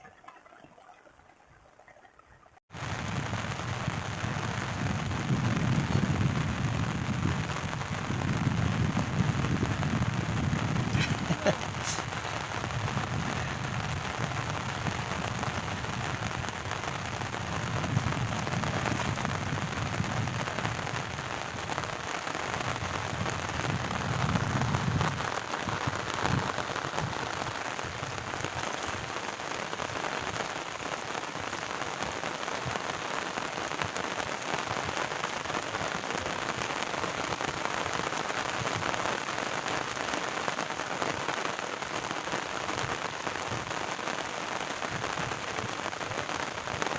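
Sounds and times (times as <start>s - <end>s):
steady rain patter: 0.0s - 46.9s.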